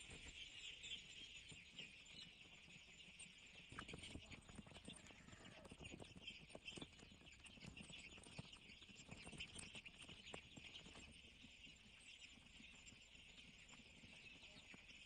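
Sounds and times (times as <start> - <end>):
chickens pecking: 0.0 - 15.0
chicks cheeping: 0.0 - 15.0.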